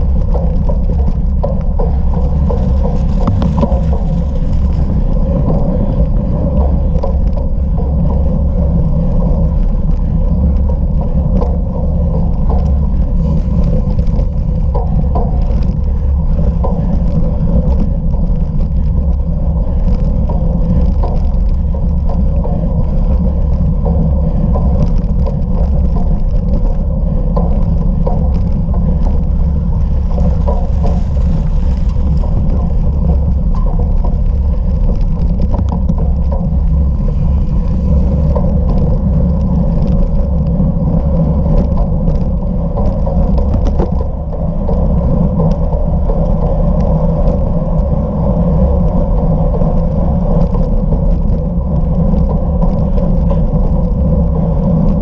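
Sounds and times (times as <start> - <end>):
bicycle tyres rumbling on rough ground: 0.0 - 55.0
steady hum: 0.0 - 55.0
wind rushing over microphone: 0.0 - 55.0.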